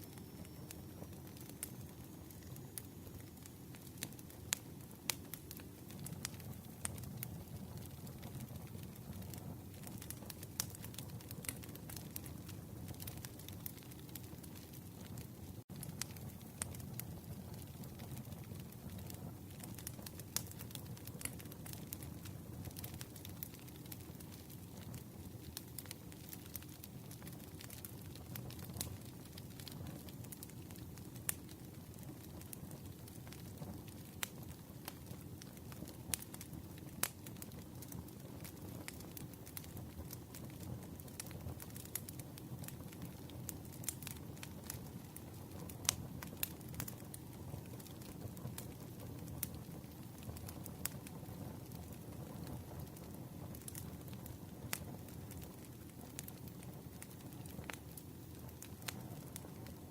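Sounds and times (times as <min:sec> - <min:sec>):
campfire crackling: 0:00.0 - 0:59.9
low rumble of burning wood: 0:00.0 - 0:59.9
loud fire pops: 0:00.1 - 0:59.9.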